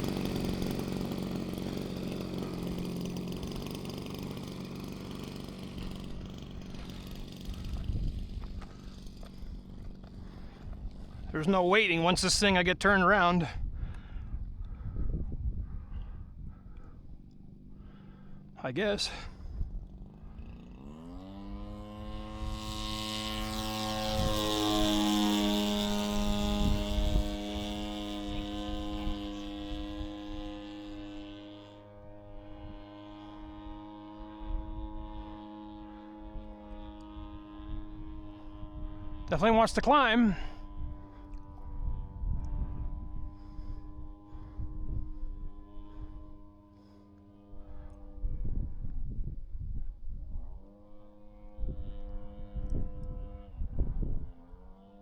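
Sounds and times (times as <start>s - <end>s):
model plane engine: 0.0s - 55.0s.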